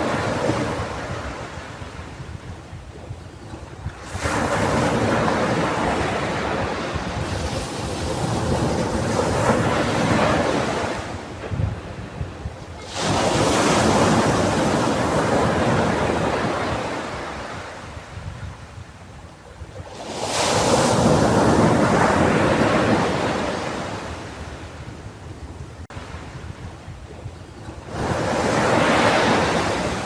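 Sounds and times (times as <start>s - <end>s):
ocean waves crashing on beach: 0.0s - 30.0s
wind on microphone: 0.0s - 30.0s.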